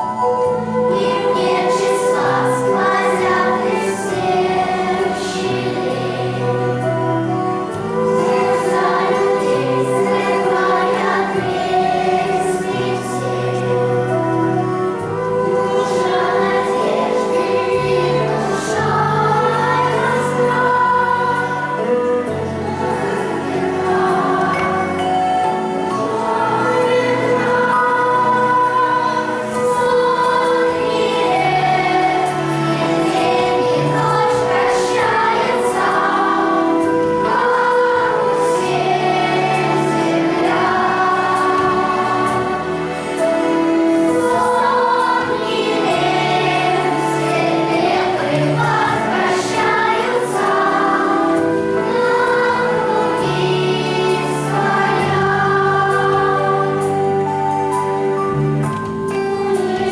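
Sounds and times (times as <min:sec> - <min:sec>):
choir singing: 0:00.0 - 0:59.9
instrumental accompaniment: 0:00.0 - 0:59.9.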